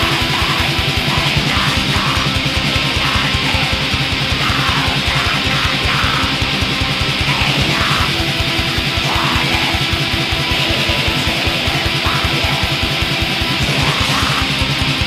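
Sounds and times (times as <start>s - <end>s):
electric guitars strumming: 0.0s - 15.0s
fast drum beat: 0.0s - 15.0s.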